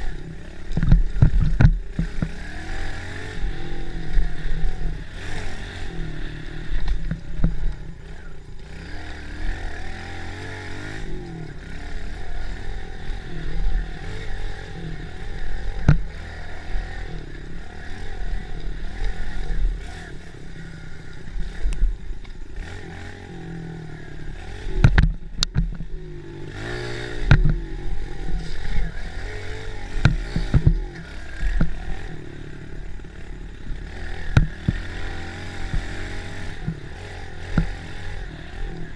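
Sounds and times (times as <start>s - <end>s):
bike rattling over rough trail: 0.0s - 38.9s
minibike engine revving: 0.0s - 38.9s.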